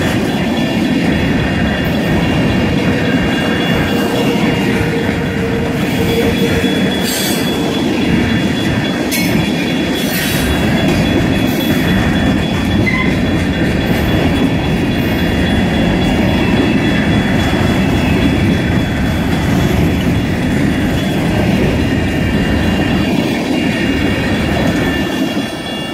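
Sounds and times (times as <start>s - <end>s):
rail joint clicks: 0.0s - 25.9s
train wheels rumbling on rail: 0.0s - 25.9s.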